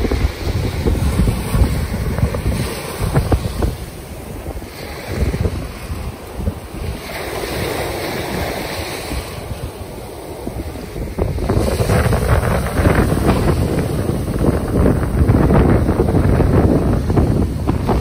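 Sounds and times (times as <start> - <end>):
ocean surf washing ashore: 0.0 - 18.0
wind buffeting microphone: 0.0 - 18.0.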